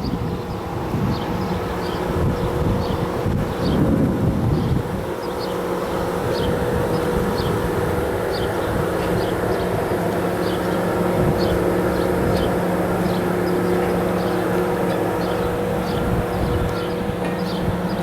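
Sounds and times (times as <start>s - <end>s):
machinery hum: 0.0s - 18.0s.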